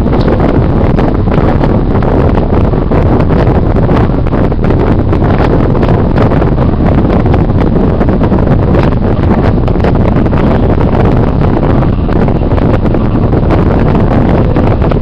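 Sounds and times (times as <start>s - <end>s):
loud rushing noise with low rumble: 0.0s - 15.0s.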